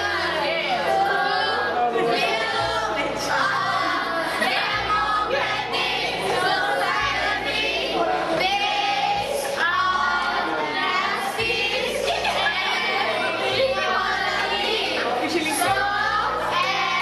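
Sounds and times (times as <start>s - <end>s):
group singing in chorus: 0.0s - 17.0s.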